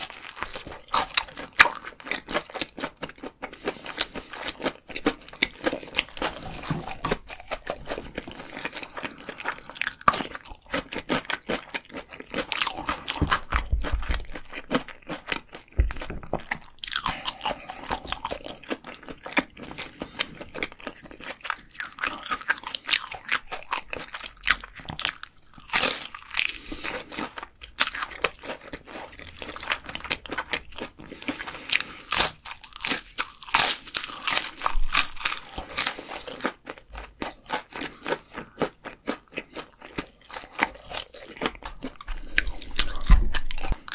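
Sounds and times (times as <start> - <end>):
crunchy fried food chewing: 0.0 - 43.9
wet chewing: 0.0 - 43.9.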